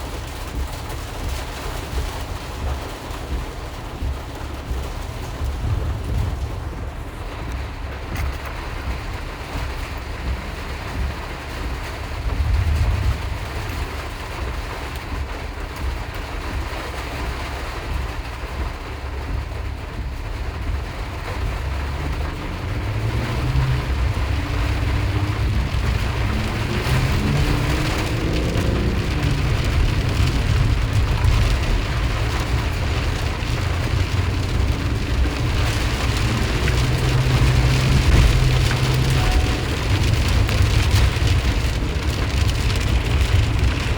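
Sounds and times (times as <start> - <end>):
heavy rain hitting a van: 0.0 - 43.9
road and engine rumble: 0.0 - 43.9.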